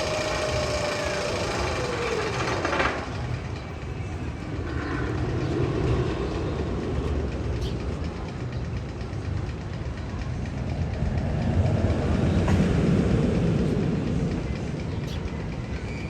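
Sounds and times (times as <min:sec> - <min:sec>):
train rumble with rail clatter: 0:00.0 - 0:16.0.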